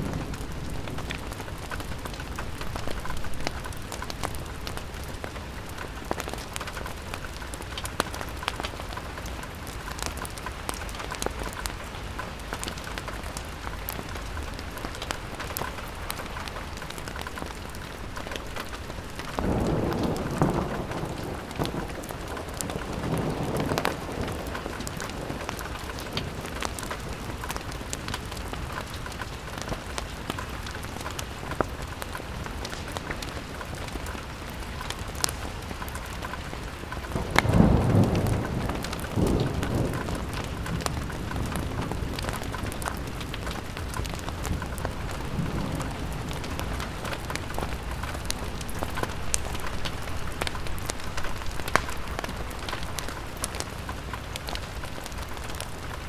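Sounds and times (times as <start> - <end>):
rain pattering on a window: 0.0 - 56.0
small crackles: 0.0 - 56.0.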